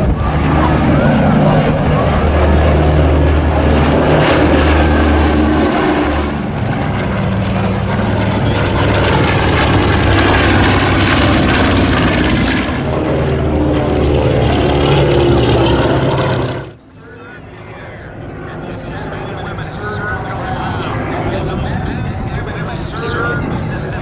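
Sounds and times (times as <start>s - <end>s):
propeller planes droning past: 0.0s - 24.0s.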